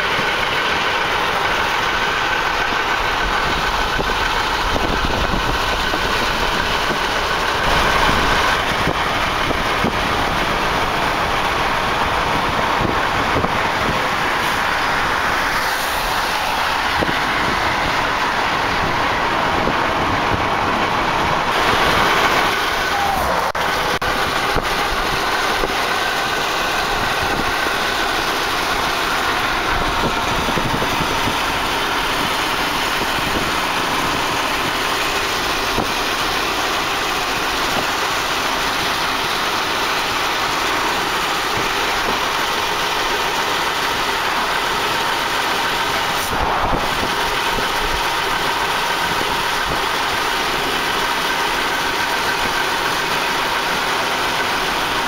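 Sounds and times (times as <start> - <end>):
car driving at speed: 0.0 - 53.7.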